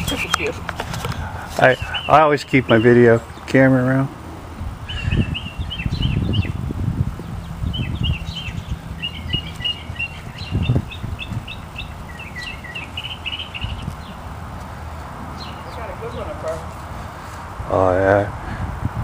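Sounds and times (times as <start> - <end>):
small birds chirping: 0.0 - 17.5.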